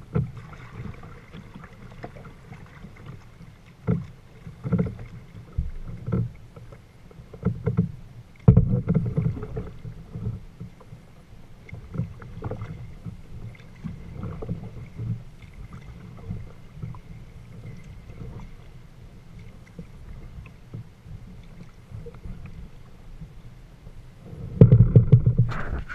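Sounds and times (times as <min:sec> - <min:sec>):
water splashing against kayak hull: 0:00.0 - 0:25.9.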